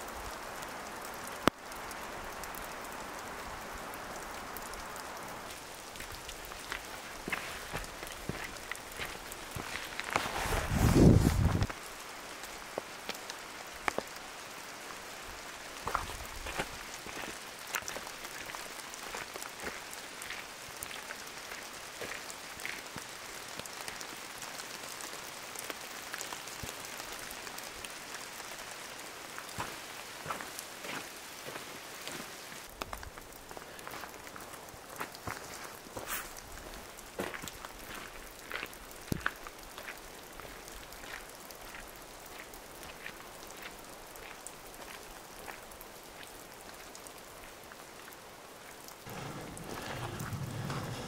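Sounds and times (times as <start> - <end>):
raindrops ticking: 0.0 - 10.3, 11.6 - 51.0
steady rain falling: 0.0 - 51.0.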